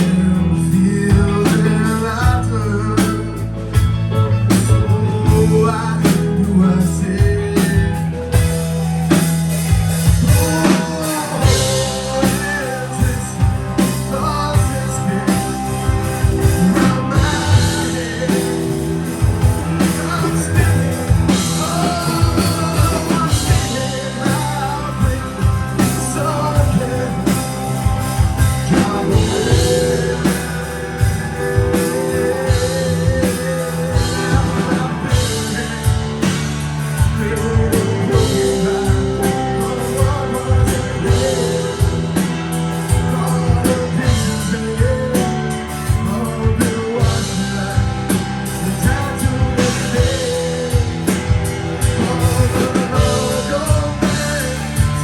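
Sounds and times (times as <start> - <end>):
bass guitar: 0.0 - 55.0
drum kit: 0.0 - 55.0
electric guitar: 0.0 - 55.0
person singing: 0.0 - 55.0.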